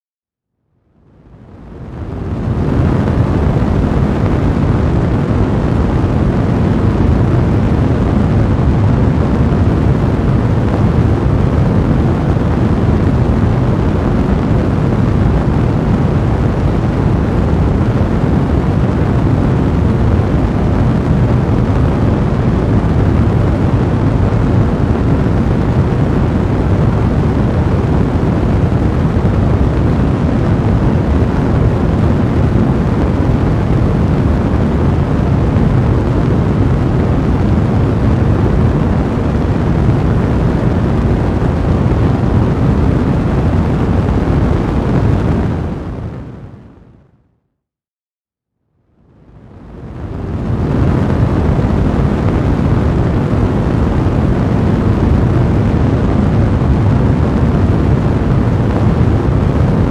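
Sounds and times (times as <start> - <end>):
fire rumbling: 1.0 - 46.7, 49.3 - 59.9.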